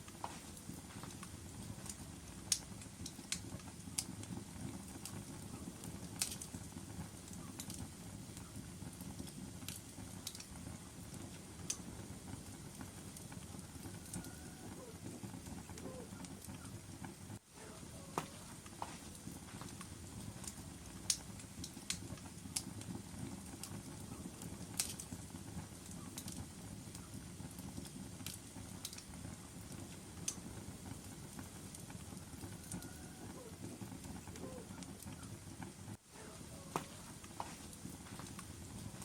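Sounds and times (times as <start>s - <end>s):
fire flames rumbling: 0.0s - 39.0s
wood crackling and popping: 0.0s - 39.0s.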